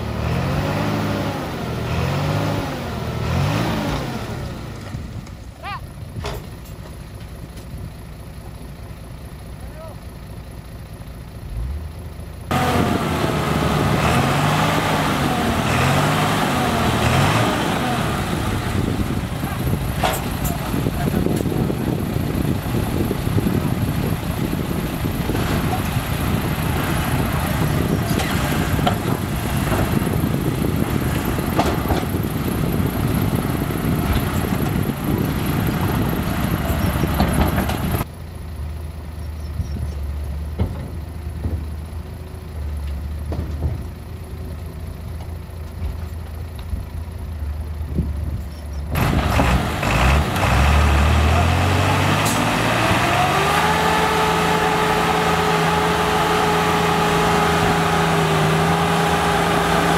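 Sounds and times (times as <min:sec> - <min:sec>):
heavy diesel engines working: 0:00.0 - 0:59.9.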